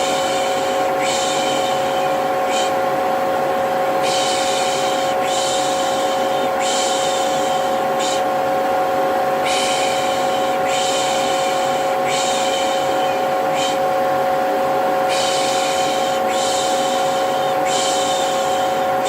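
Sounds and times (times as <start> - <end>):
vacuum cleaner humming: 0.0 - 19.0.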